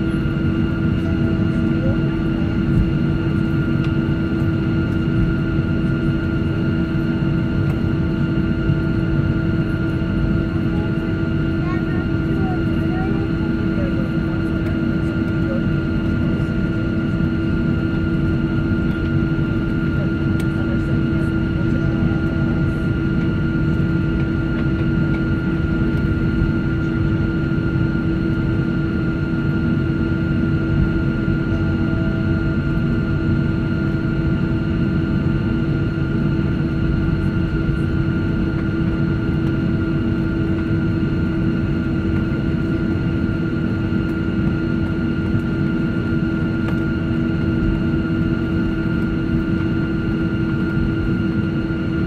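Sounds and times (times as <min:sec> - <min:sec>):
jet engines idling inside cabin: 0:00.0 - 0:52.0.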